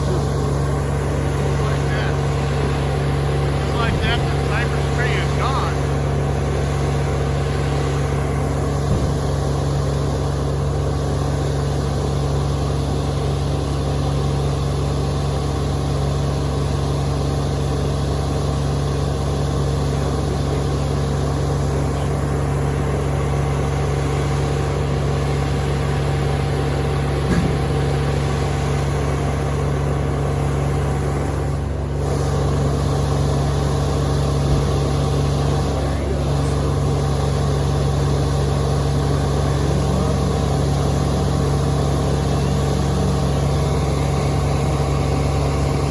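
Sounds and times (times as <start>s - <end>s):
large engine idling: 0.0s - 45.9s.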